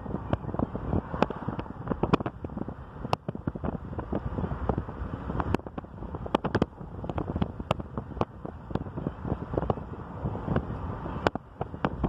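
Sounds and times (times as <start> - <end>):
car road noise: 0.0 - 12.0
wind buffeting microphone: 0.0 - 12.0
sharp pops from wind gusts: 0.2 - 9.8, 10.4 - 12.0.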